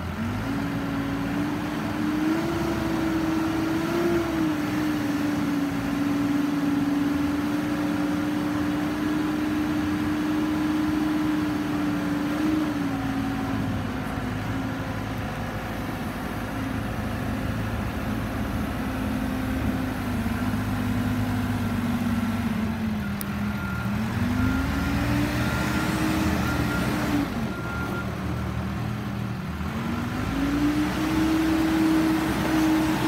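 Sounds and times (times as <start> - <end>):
diesel engine revving: 0.0 - 33.0.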